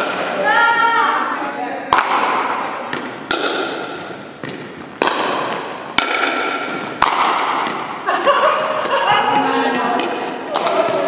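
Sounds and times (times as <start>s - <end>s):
paddles striking plastic ball: 1.9s - 11.0s.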